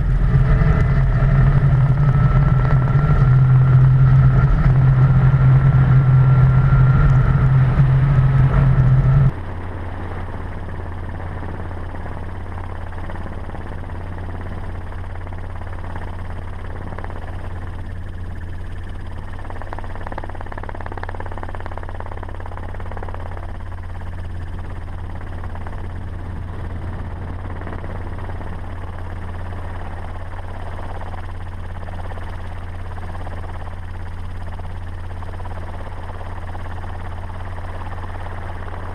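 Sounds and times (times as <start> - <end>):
vehicle engine drone: 0.0 - 38.9.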